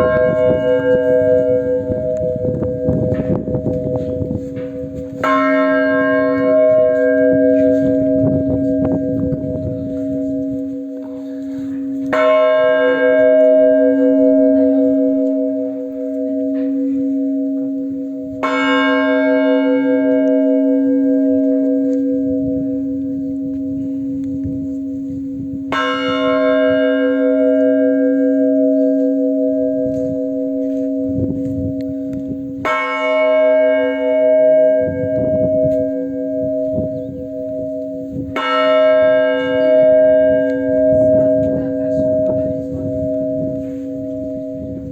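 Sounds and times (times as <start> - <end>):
church bell ringing: 0.0 - 44.9.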